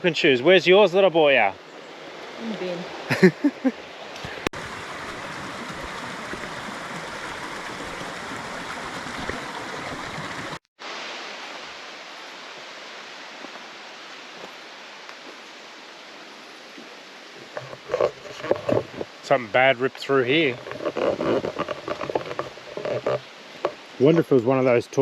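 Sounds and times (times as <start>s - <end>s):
waterfall and creek rushing: 0.0s - 25.0s.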